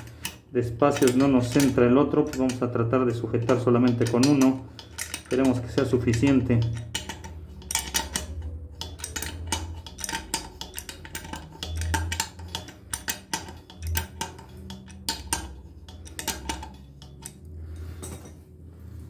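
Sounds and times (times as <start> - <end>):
wrench clicking on metal nut: 0.0 - 18.3.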